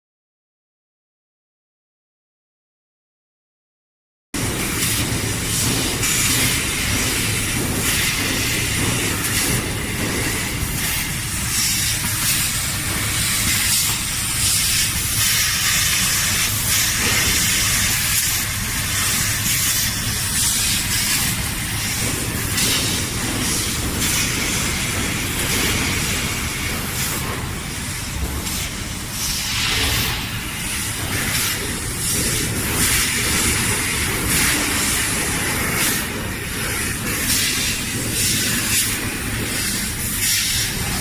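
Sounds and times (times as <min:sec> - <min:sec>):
cutting gas jet hissing: 0:04.5 - 0:41.0.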